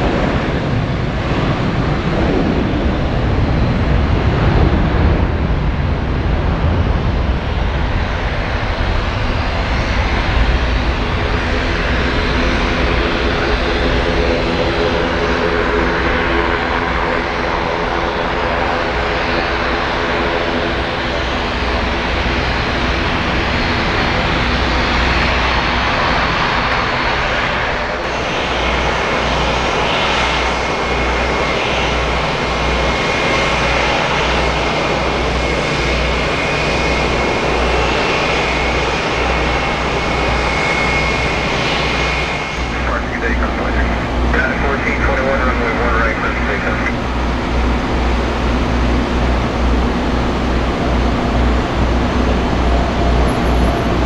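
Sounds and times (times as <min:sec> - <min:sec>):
jet engines running: 0:00.0 - 0:54.0
pulsing low engine rumble: 0:00.0 - 0:54.0
steady high whine: 0:00.0 - 0:54.0.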